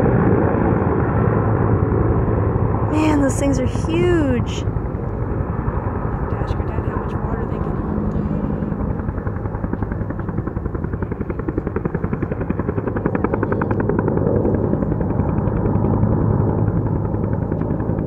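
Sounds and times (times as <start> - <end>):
helicopter engine hum: 0.0 - 18.0
helicopter rotor beating: 0.0 - 18.0.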